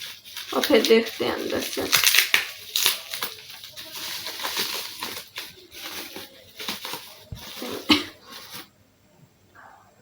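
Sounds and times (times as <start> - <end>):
packaging tearing and crinkling: 0.0 - 8.7.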